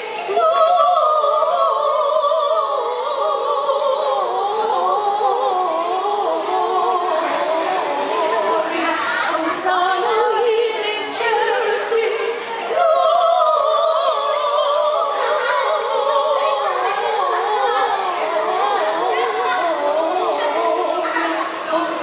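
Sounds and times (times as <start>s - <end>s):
carol singers singing unaccompanied: 0.0s - 22.0s.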